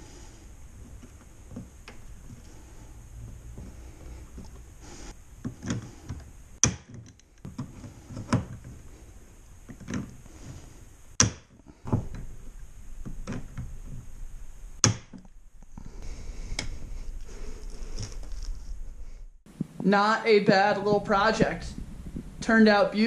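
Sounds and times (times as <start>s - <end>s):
handling noise: 0.0s - 22.5s.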